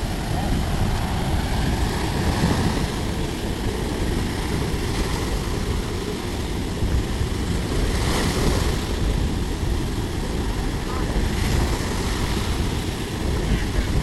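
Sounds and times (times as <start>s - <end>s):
wave breaking hiss: 0.0s - 14.0s
waves washing on shore: 0.0s - 14.0s.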